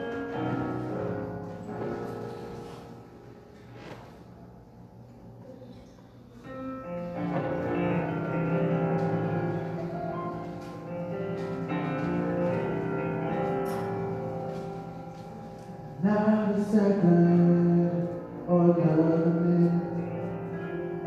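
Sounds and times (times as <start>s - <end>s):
keyboard playing sustained chords: 0.0s - 3.8s, 6.4s - 21.0s.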